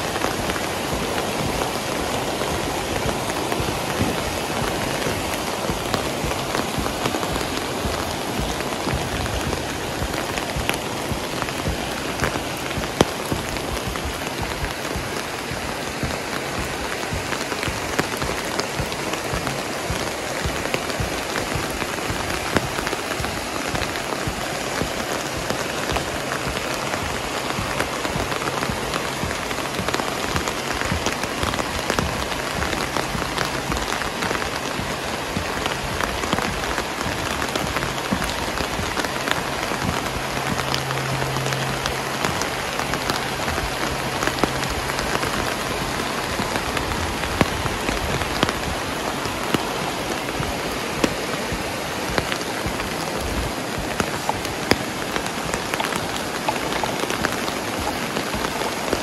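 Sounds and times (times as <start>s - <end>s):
raindrops ticking close by: 0.0s - 59.0s
steady rain falling: 0.0s - 59.0s.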